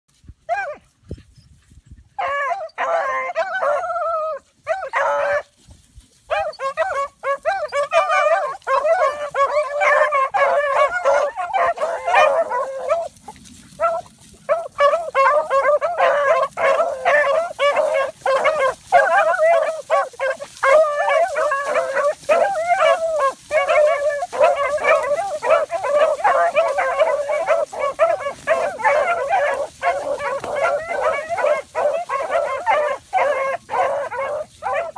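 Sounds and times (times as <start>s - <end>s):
dogs barking: 2.2s - 5.5s, 6.3s - 34.9s.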